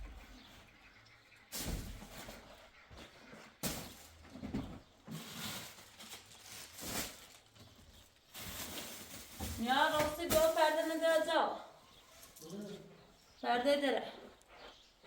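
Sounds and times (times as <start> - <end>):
rustling and shuffling: 0.0 - 13.4.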